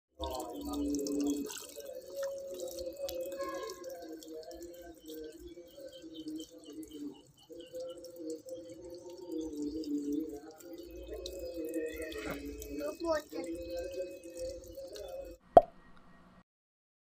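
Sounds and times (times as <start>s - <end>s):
water trickling and dripping: 0.2s - 15.7s.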